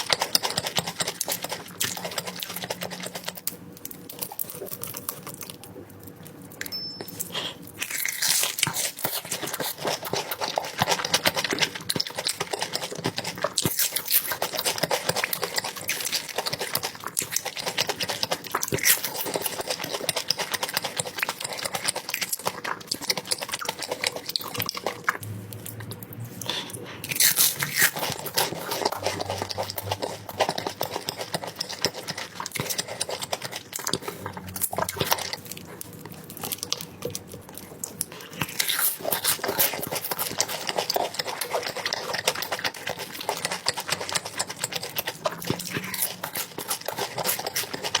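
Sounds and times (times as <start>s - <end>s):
chewing with wet mouth clicks: 0.0s - 48.0s.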